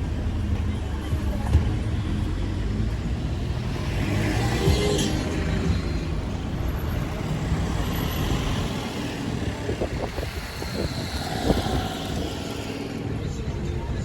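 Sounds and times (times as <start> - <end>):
traffic rumbling past: 0.0 - 14.0.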